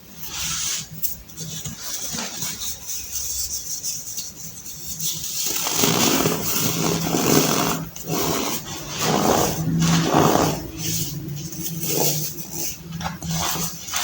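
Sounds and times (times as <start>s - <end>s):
baking soda crunching and squeaking: 0.2s - 14.0s.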